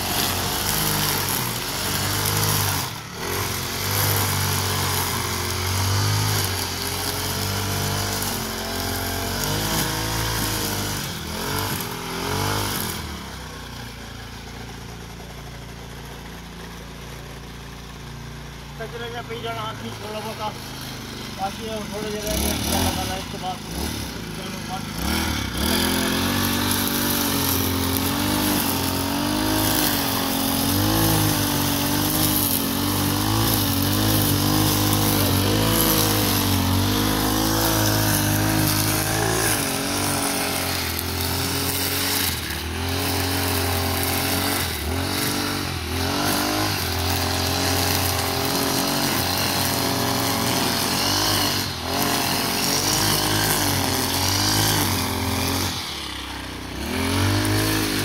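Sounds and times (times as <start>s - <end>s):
brush cutter cutting grass: 0.0s - 58.0s.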